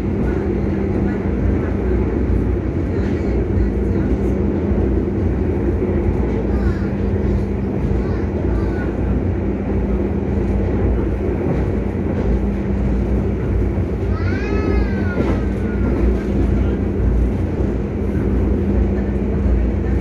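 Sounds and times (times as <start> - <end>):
train running rumble: 0.0 - 20.0.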